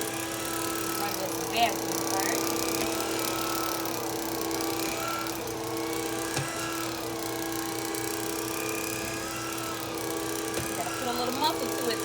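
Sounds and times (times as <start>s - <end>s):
floor washer motor whining: 0.0s - 12.0s.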